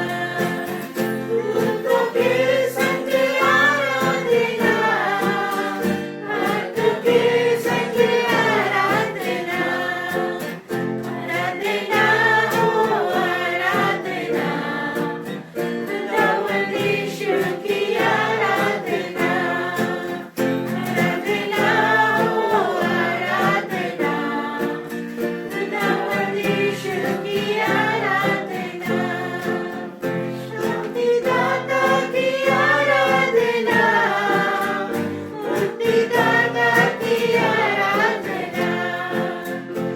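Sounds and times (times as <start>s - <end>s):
group singing worship song: 0.0s - 39.9s
instrumental backing: 0.0s - 39.9s.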